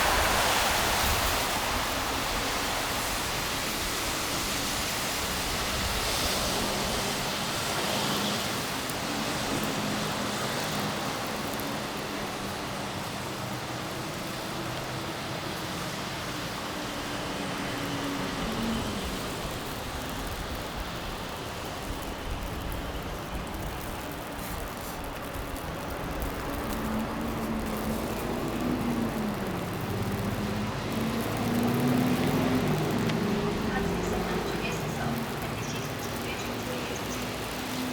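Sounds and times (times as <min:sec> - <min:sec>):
city street ambience: 0:00.0 - 0:37.9
low steady engine hum: 0:00.0 - 0:37.9
vehicle tyre hiss: 0:00.0 - 0:37.9.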